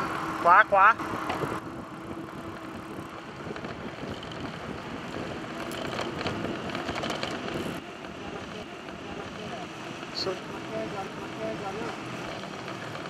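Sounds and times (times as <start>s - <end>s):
traffic engines: 0.0s - 13.0s
wind and road noise: 0.0s - 13.0s.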